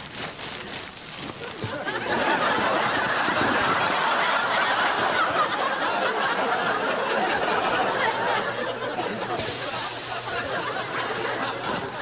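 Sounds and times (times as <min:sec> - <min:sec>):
audience laughing: 0:01.4 - 0:12.0.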